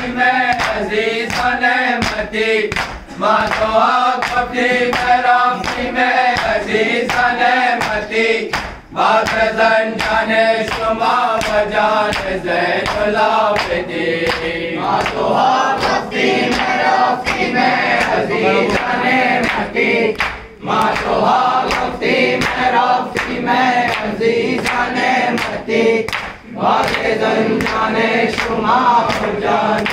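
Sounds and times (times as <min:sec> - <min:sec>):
men chanting in unison: 0:00.0 - 0:29.9.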